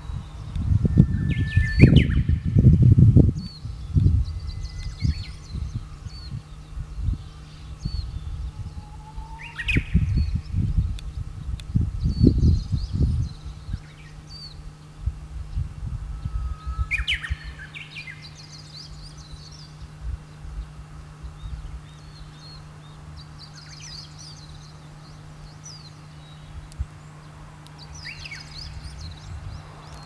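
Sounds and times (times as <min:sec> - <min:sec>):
small birds chirping: 0:00.0 - 0:30.0
steady low hum: 0:00.0 - 0:30.0.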